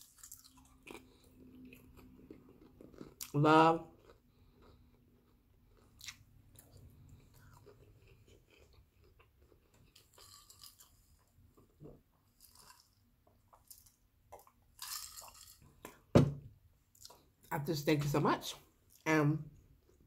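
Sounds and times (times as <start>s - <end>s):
chewing and mouth sounds: 0.0s - 16.1s, 16.9s - 17.5s.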